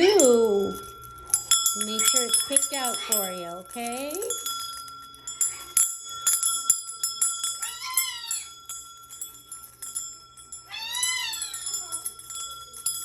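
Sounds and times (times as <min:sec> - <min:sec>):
small metal bells jingling: 0:00.0 - 0:13.0.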